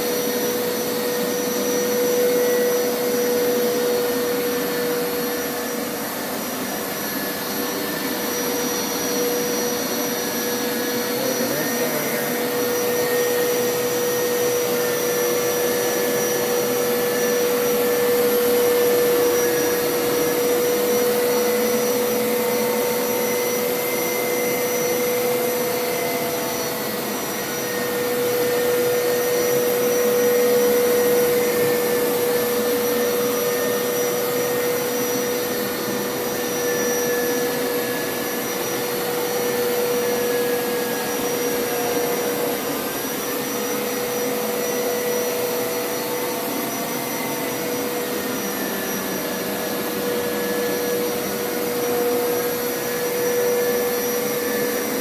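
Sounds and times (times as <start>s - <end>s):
carpet washer motor whine: 0.0s - 55.0s.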